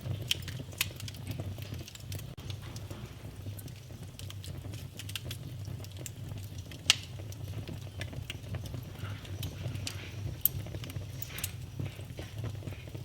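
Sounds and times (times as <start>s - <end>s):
sharp fire pops: 0.0s - 12.4s
fire crackling: 0.0s - 13.0s
fire flames rumbling: 0.0s - 13.0s.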